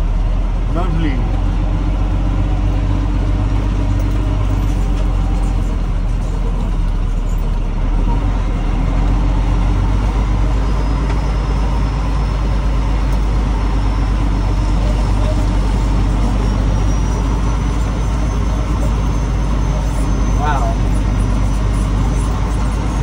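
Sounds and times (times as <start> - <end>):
road noise on dirt track: 0.0 - 23.0
truck diesel engine running: 0.0 - 23.0.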